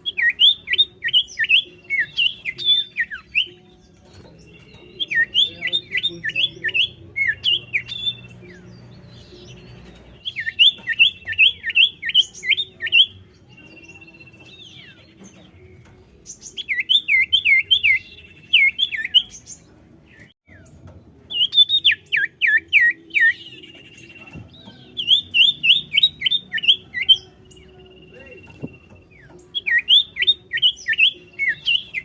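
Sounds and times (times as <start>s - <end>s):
bird singing whistled notes: 0.0s - 32.0s.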